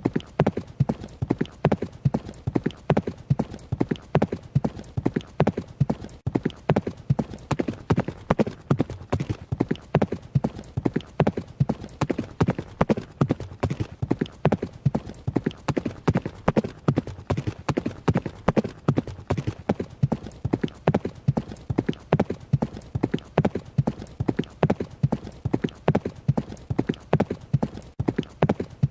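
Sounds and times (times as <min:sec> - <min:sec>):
horse hoofbeats galloping: 0:00.0 - 0:28.9.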